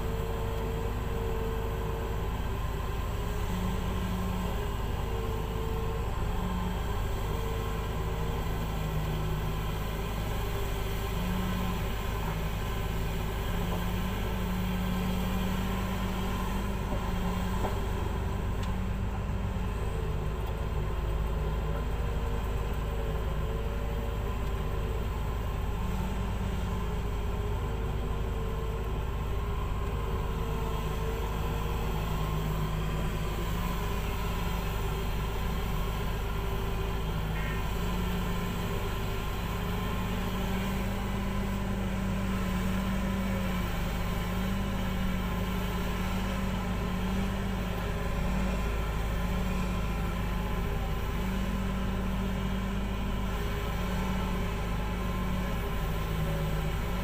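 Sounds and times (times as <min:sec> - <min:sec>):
excavator diesel engine working: 0:00.0 - 0:57.0.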